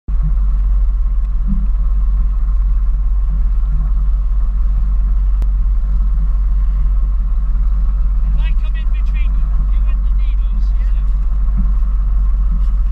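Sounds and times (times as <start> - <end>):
boat engine rumbling: 0.1 - 12.9.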